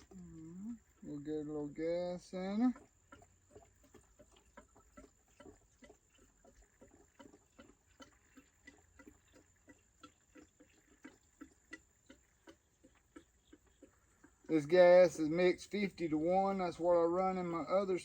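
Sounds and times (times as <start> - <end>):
fuel glugging into tank: 0.0 - 18.0.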